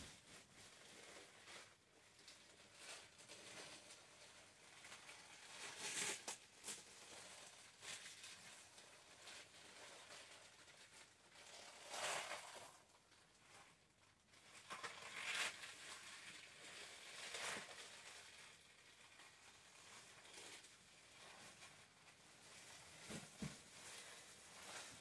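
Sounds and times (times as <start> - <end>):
pvc dress rustling and crinkling: 0.0 - 25.0.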